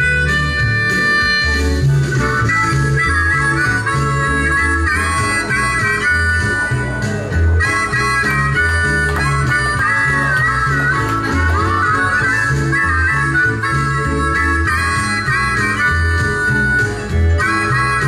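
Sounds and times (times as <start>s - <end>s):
harmonicas playing blues tune: 0.0s - 18.0s
steady bass line: 0.0s - 18.0s.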